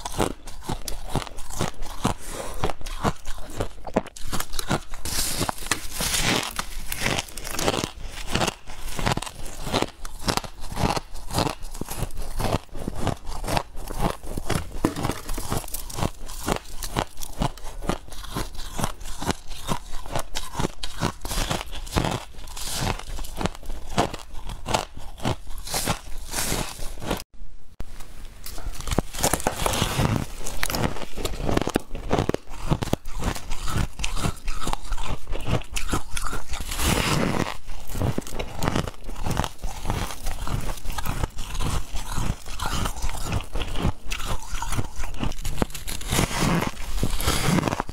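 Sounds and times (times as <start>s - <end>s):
frost being chewed crunching: 0.0s - 27.2s, 28.4s - 47.9s.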